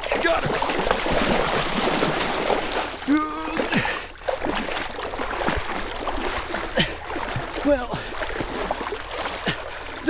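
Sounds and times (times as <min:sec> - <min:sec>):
fish thrashing and water splashing: 0:00.0 - 0:10.0.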